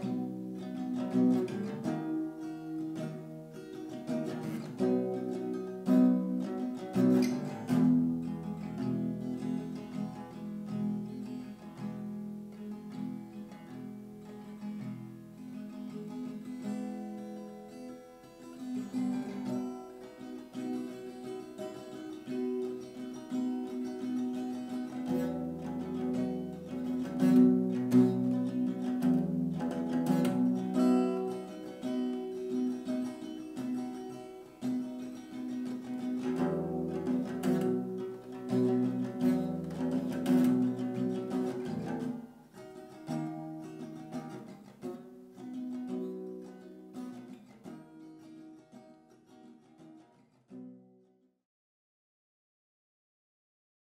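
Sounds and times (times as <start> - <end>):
acoustic guitar music: 0.0 - 51.2.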